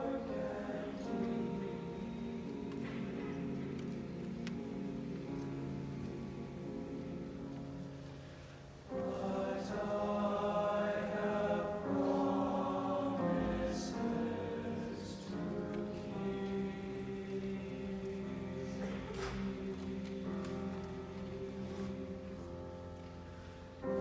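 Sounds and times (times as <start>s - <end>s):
men's choir singing in harmony: 0.0s - 7.9s, 8.9s - 24.0s
piano accompaniment: 0.0s - 24.0s.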